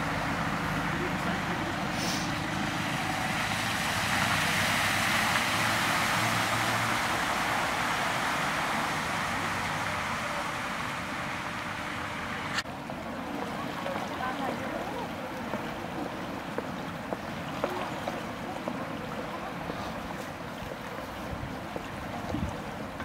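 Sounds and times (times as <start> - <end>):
low engine hum: 0.0 - 23.0
tyres hissing through floodwater: 0.0 - 23.0.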